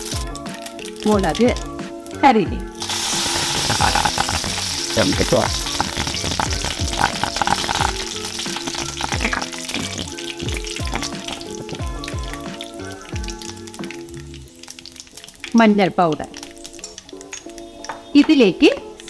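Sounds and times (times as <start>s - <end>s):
oil sizzling in a frying pan: 0.0s - 19.0s.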